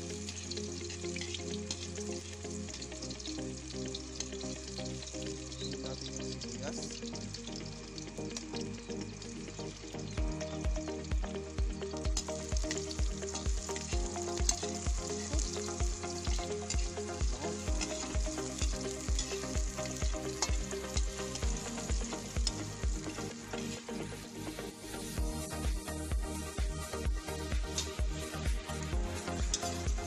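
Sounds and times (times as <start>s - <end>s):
background music with steady beat: 0.0s - 30.0s
food sizzling in a wok: 0.0s - 30.0s.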